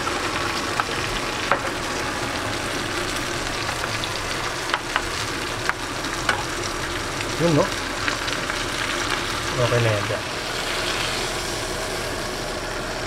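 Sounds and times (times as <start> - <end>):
steaks sizzling in frying pan: 0.0 - 13.0.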